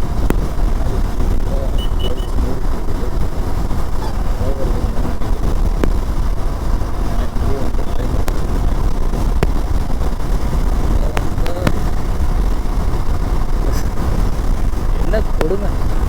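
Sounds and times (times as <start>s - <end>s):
motorcycle engine: 0.0s - 16.0s
wind and road noise: 0.0s - 16.0s.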